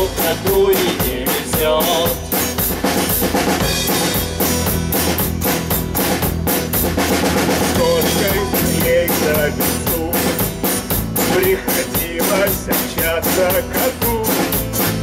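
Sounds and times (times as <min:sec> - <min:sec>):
drum kit rock beat: 0:00.0 - 0:15.0
strummed acoustic guitar: 0:00.0 - 0:15.0.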